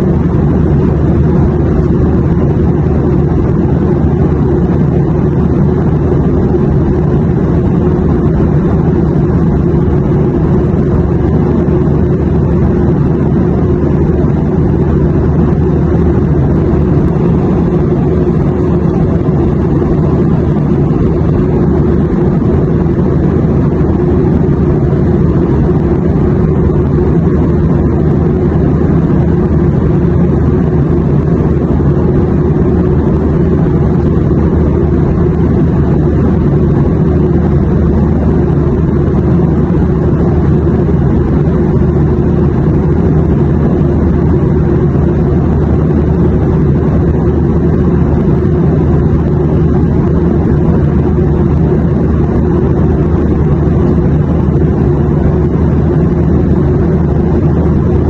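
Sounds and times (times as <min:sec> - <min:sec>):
airliner cabin rumble: 0:00.0 - 0:58.0
faint steady hum: 0:00.0 - 0:58.0.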